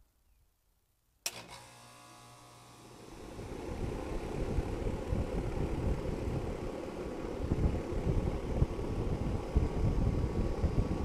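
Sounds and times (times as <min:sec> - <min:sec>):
air conditioner unit running: 0:01.5 - 0:11.0.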